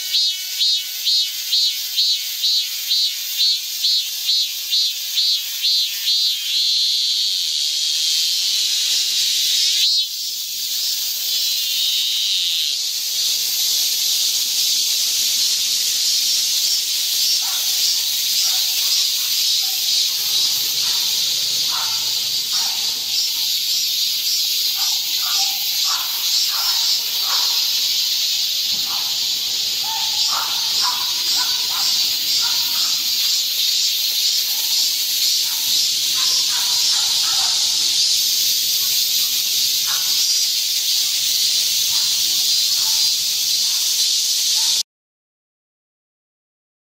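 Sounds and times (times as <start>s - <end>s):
cicadas buzzing: 0.0s - 44.8s.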